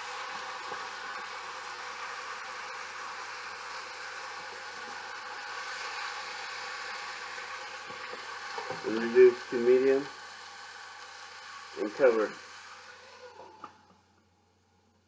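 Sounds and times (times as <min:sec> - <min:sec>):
food sizzling in a pan: 0:00.0 - 0:14.8.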